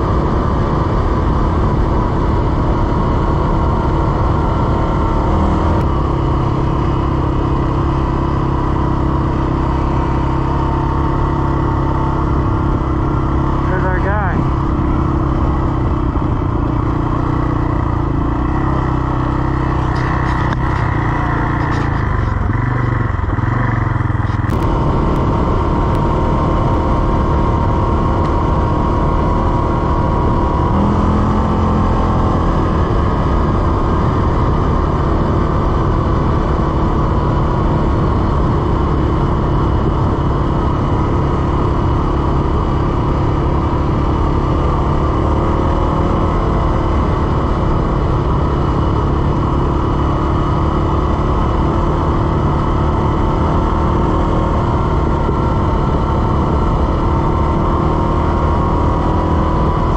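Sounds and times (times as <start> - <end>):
atv engine running: 0.0 - 59.9
rush of noise: 0.0 - 59.9.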